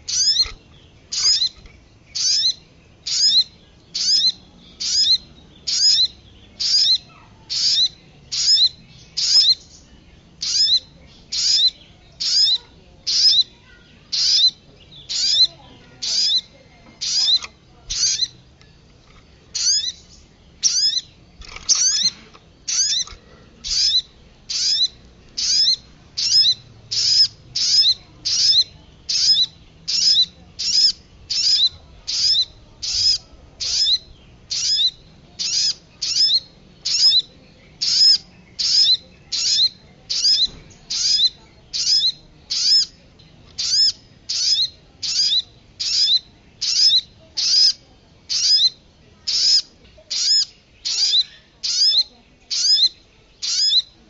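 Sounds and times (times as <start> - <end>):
songbird calls: 0.0 - 54.0.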